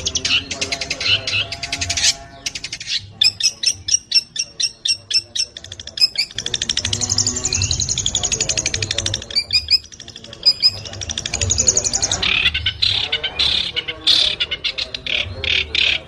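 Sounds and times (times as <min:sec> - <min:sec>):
bird chattering trill: 0:00.0 - 0:16.0
bird singing sharp notes: 0:00.0 - 0:16.0.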